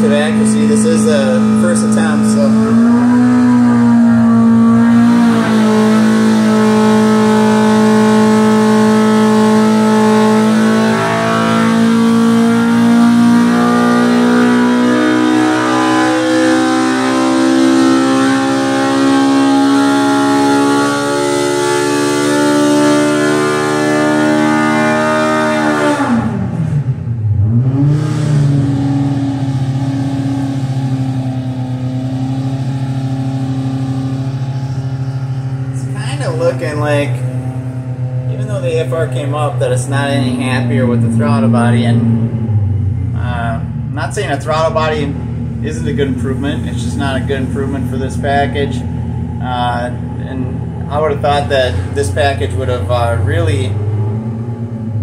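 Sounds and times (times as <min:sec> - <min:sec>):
engine revving under load: 0:00.0 - 0:55.0.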